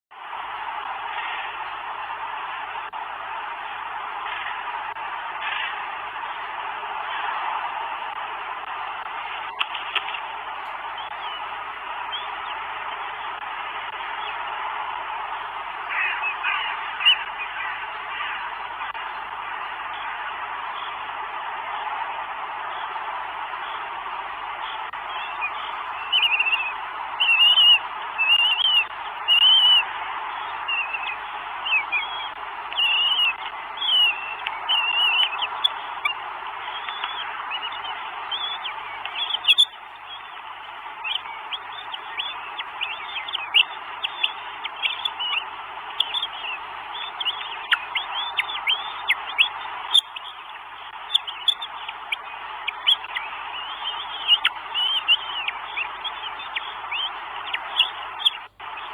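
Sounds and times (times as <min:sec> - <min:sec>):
steady hiss: 0:00.2 - 0:58.9
bird calling: 0:00.7 - 0:58.9.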